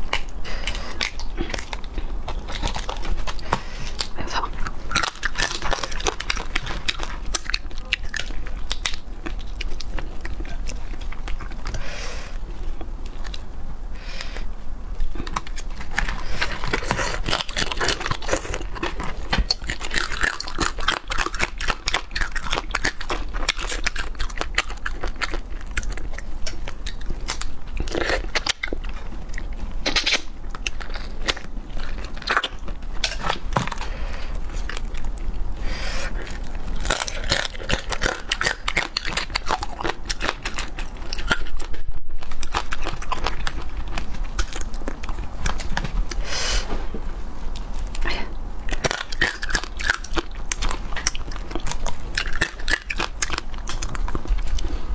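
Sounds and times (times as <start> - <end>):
crunching crab shells: 0.0 - 11.9, 15.0 - 46.2, 47.8 - 54.9.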